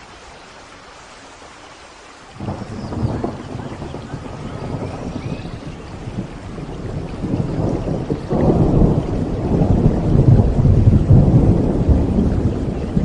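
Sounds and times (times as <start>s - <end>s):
steady rain: 0.0s - 13.0s
rolling thunder: 2.4s - 13.0s.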